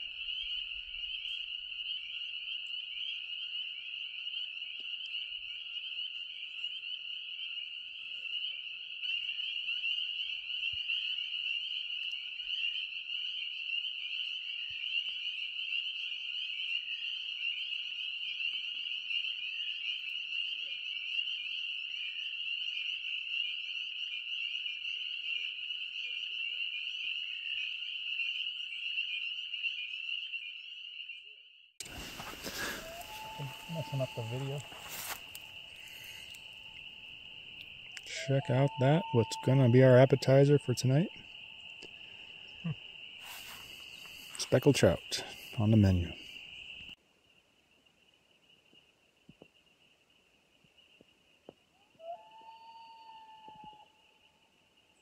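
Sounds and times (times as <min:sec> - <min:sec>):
chorus of spring peepers: 0:00.0 - 0:55.0.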